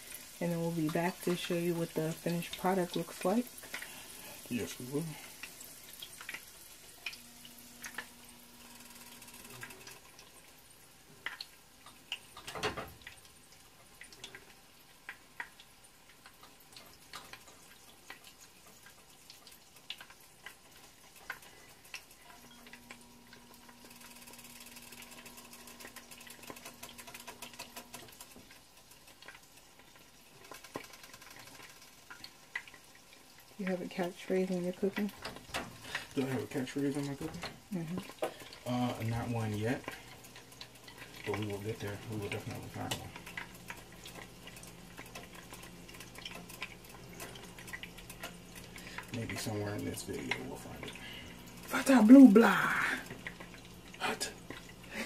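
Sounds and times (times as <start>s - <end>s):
food frying in oil: 0.0s - 55.0s.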